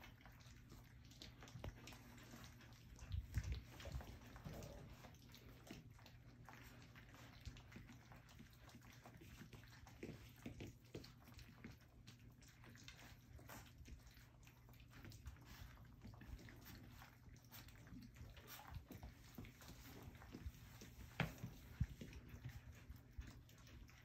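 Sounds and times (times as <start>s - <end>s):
puppies lapping and chewing: 0.0s - 24.0s.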